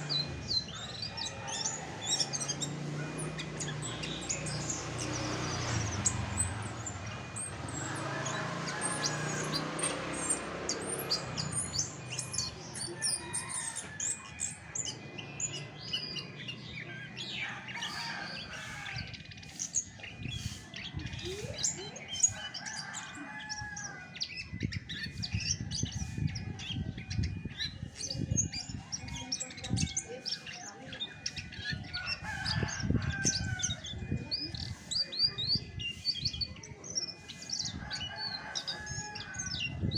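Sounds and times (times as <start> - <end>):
thrush singing rapid chirps: 0.0 - 39.9.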